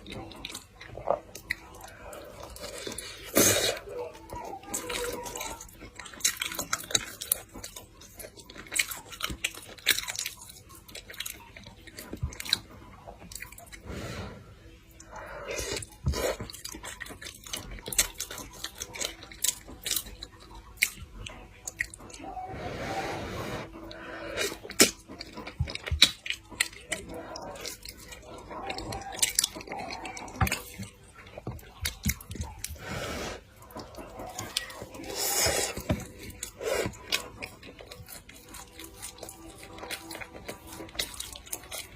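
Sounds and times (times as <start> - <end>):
person chewing: 0.0 - 41.9.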